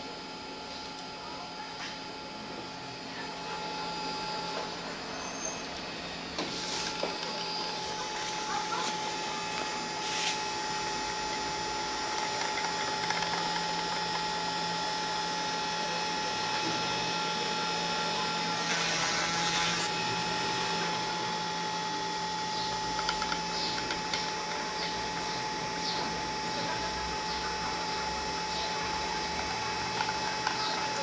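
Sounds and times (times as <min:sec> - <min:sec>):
stepper motors whining and ratcheting: 0:04.0 - 0:31.0.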